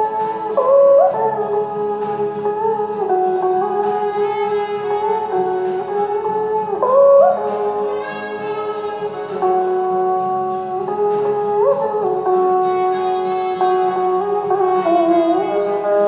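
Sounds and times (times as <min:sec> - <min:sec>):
monochord slow melody: 0:00.0 - 0:16.0.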